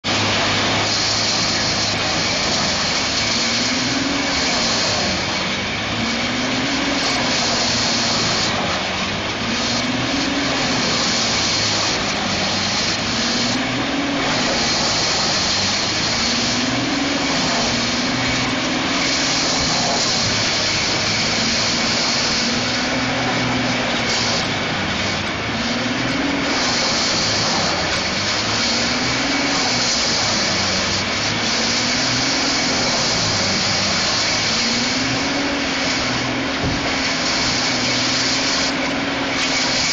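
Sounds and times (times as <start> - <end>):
grinder running loud: 0.0 - 39.9.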